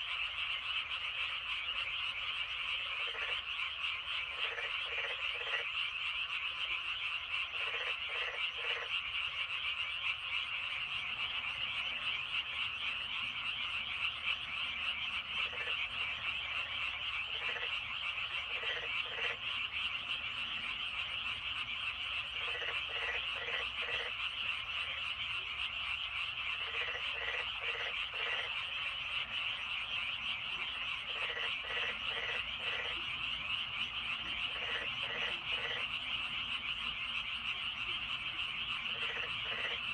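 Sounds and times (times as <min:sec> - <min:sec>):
chorus of frogs calling: 0:00.0 - 0:39.9
nearby frog croaking: 0:00.0 - 0:39.9.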